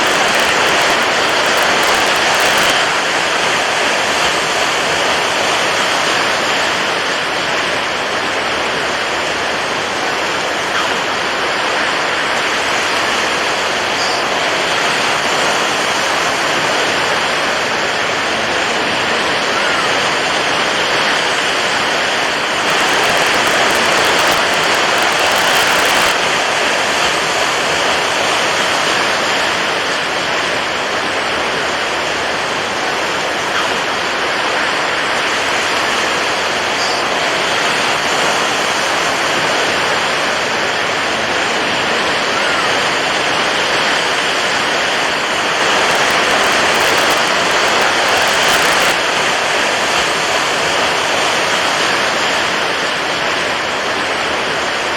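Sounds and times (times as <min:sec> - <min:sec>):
water waves rushing: 0:00.0 - 0:54.9.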